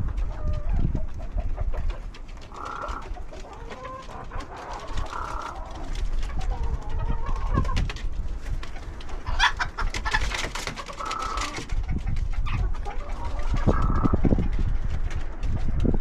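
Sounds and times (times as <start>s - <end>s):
rooster clucking: 0.0s - 7.9s, 8.7s - 14.6s.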